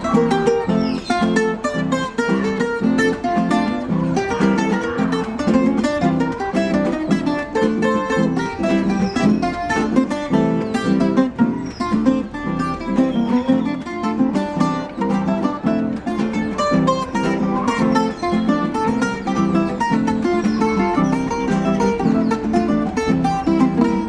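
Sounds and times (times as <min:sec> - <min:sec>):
plucked string instrument: 0:00.0 - 0:24.0.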